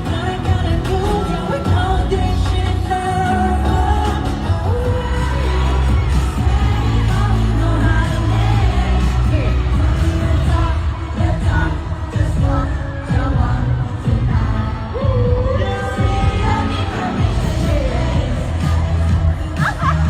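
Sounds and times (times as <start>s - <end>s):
pop song with singing: 0.0s - 20.0s.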